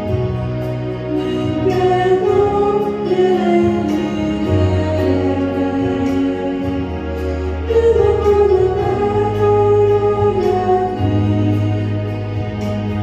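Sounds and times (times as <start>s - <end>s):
slow church hymn music: 0.0s - 13.0s.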